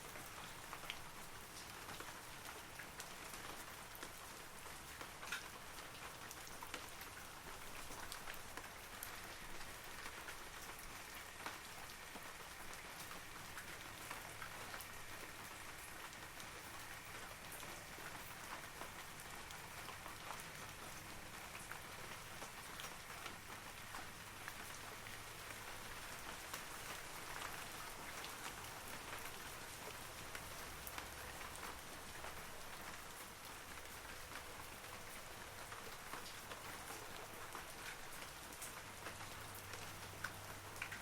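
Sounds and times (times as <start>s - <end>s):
rain on foliage: 0.0s - 41.0s.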